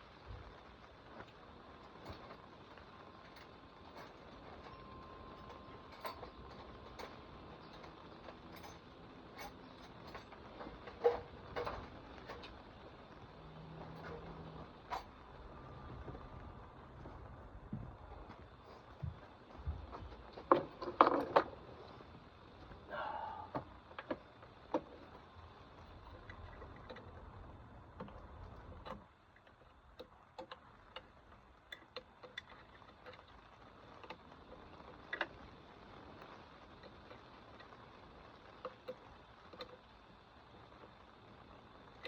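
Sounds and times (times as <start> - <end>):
low background hum: 0.0 - 42.0.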